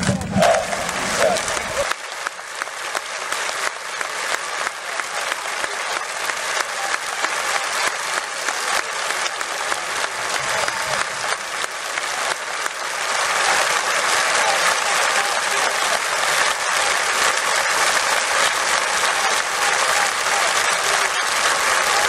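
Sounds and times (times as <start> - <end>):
crowd applauding: 0.0 - 22.0.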